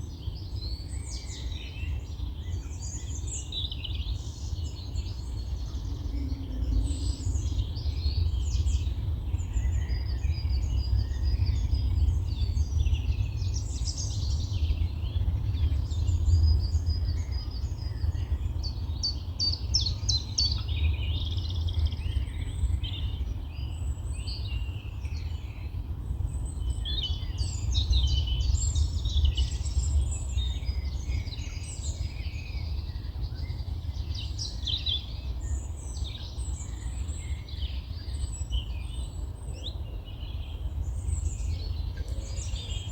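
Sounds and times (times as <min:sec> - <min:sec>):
constant low rumble: 0:00.0 - 0:42.9
songbirds chirping and trilling: 0:00.0 - 0:42.9.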